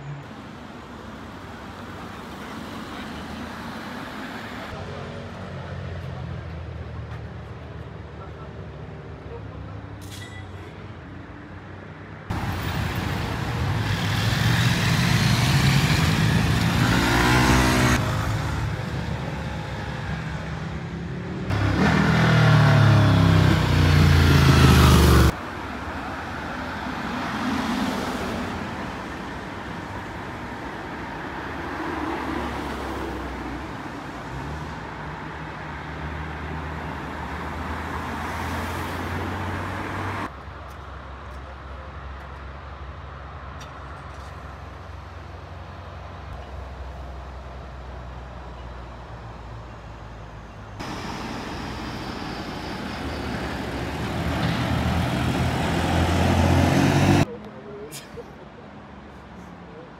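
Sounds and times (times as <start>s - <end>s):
vehicles passing on road: 0.0s - 59.9s.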